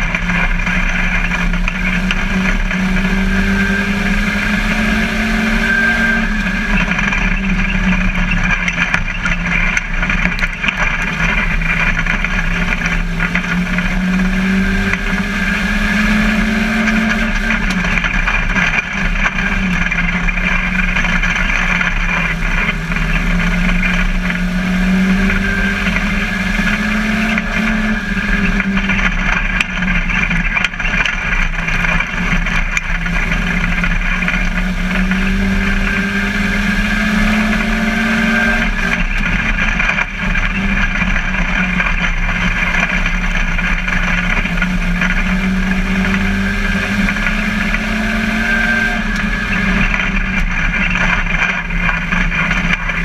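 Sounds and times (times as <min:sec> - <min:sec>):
race car engine revving: 0:00.0 - 0:53.0
road and wind noise: 0:00.0 - 0:53.0.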